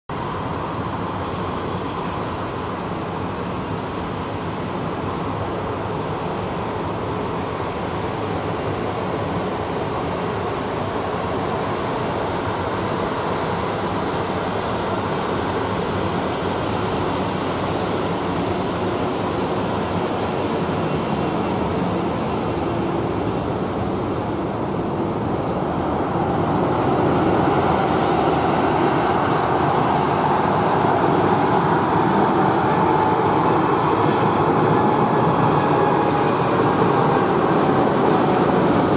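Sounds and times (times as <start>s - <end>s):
jet engines roaring: 0.1s - 38.9s.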